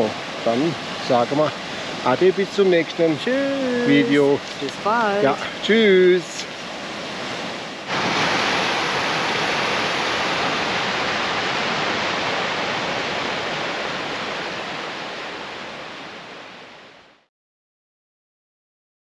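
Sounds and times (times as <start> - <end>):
stream rushing through rapids: 0.0 - 17.2.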